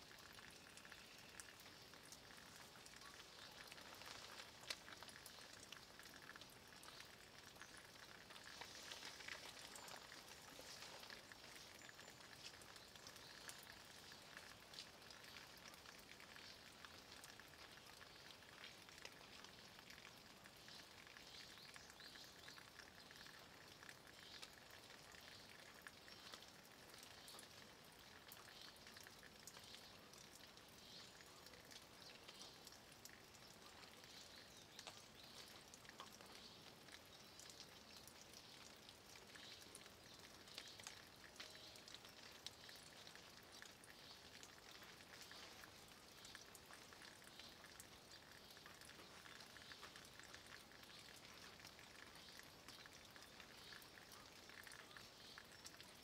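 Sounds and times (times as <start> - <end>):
light rain on stone: 0.0 - 56.0.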